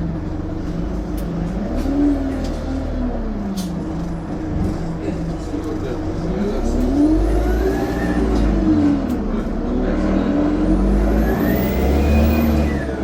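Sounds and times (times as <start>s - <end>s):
bus engine revving: 0.0s - 13.0s.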